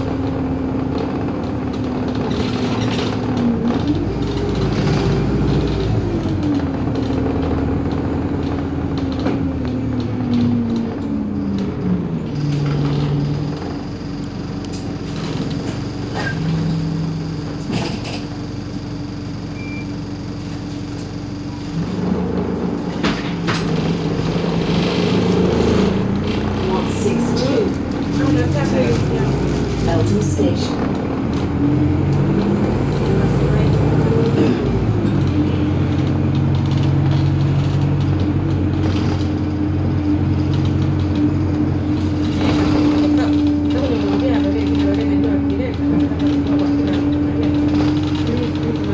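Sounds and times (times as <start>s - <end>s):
rattles and knocks: 0.0s - 18.9s, 20.6s - 48.9s
bus engine and road drone: 0.0s - 48.9s.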